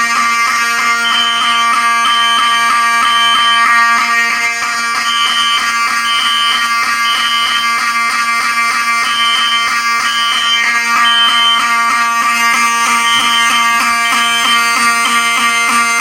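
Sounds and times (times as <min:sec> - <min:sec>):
fire alarm horn buzzing: 0:00.0 - 0:16.0
smoke alarm beeping: 0:00.0 - 0:16.0.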